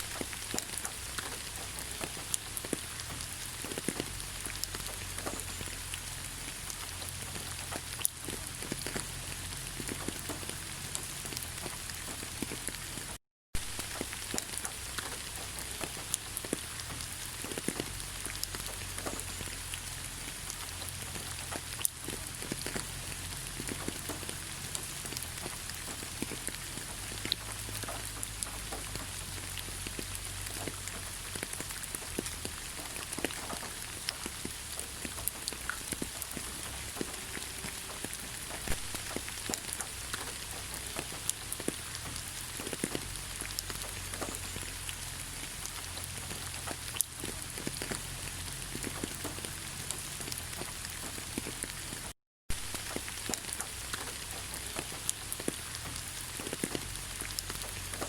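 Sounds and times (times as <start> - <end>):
raindrops hitting close by: 0.0 - 58.0
steady rain in forest: 0.0 - 58.0.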